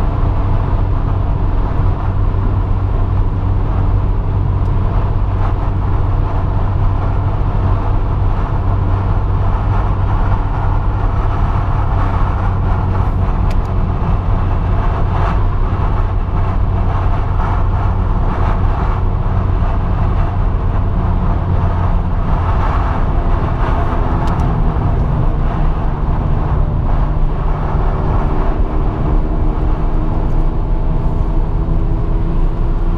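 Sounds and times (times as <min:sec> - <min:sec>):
car engine hum: 0:00.0 - 0:32.9
tyre and road noise: 0:00.0 - 0:32.9.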